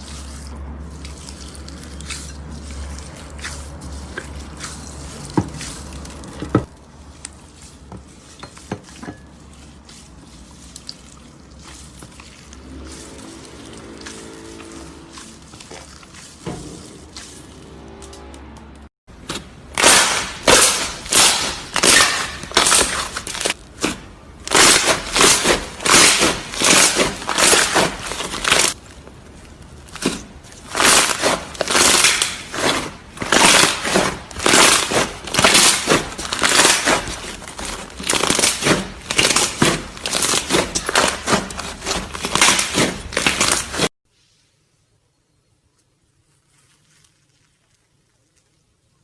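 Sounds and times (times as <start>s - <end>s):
slime squishing: 0.0s - 17.8s, 19.1s - 43.9s.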